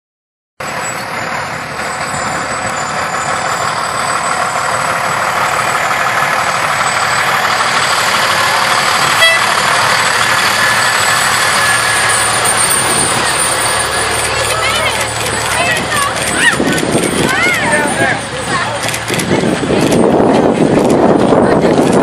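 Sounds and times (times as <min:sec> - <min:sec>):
fire engine driving past: 0:00.6 - 0:22.0.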